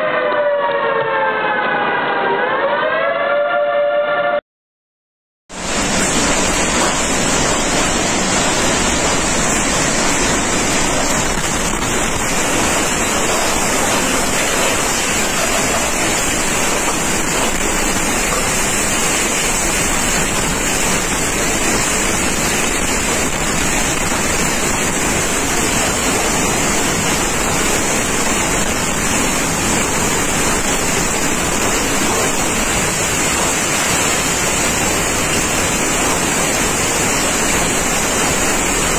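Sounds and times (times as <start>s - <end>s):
tornado winds rushing: 5.5s - 38.9s.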